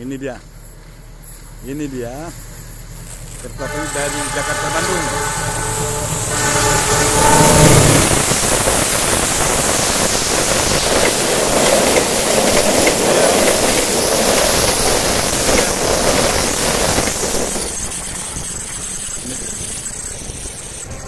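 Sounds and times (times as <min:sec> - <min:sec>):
locomotive engine rumble: 0:00.0 - 0:21.0
wheels rushing on rail: 0:00.0 - 0:21.0.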